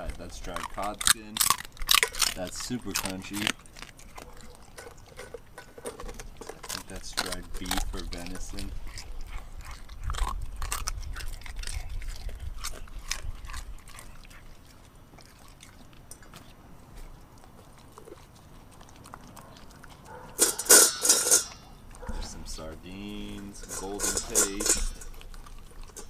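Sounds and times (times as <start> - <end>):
dog chewing and crunching: 0.0 - 26.0.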